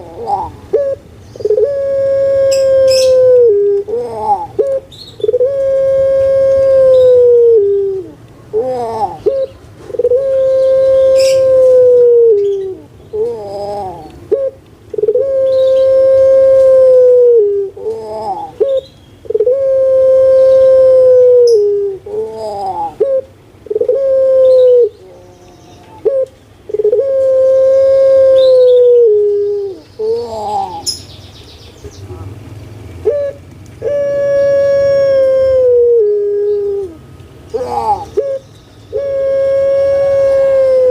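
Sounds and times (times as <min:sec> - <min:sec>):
dove cooing: 0:00.0 - 0:31.0, 0:33.0 - 0:40.9.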